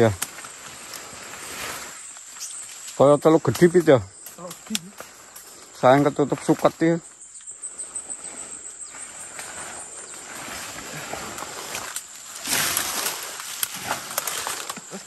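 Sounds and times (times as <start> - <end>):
high insect drone: 0.0 - 15.0
leaves and branches rustling: 0.0 - 15.0.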